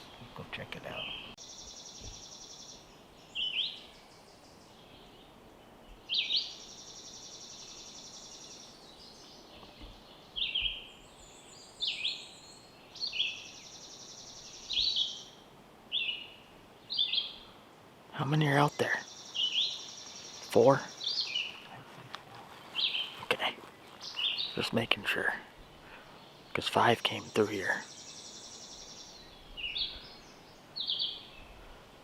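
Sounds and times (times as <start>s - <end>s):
faint background hiss: 0.0s - 32.0s
songbirds singing buzzy trills: 0.0s - 32.0s.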